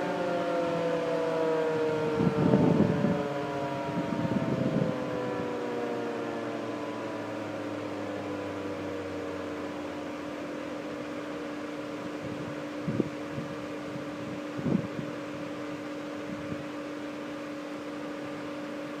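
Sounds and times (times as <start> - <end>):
warning siren winding down: 0.0 - 19.0
steady hum: 2.1 - 19.0.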